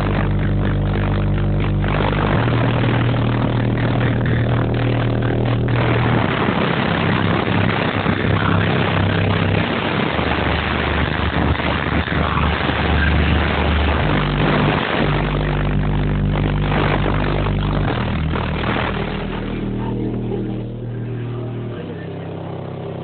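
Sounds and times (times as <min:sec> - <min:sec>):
harsh noisy layer: 0:00.0 - 0:23.0
loud bass-heavy music from subwoofers: 0:00.0 - 0:23.0.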